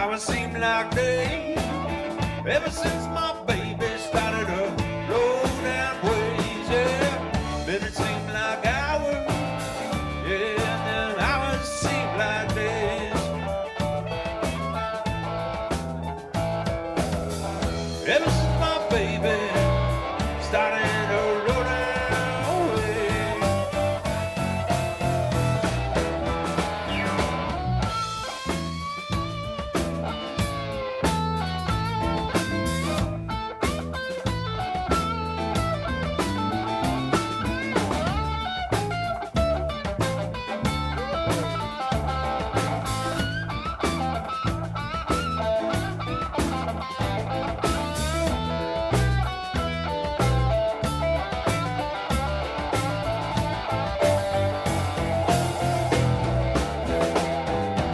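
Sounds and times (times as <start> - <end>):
bass: 0.0 - 57.9
electric guitar bending notes: 0.0 - 57.9
steady drum beat: 0.0 - 57.9.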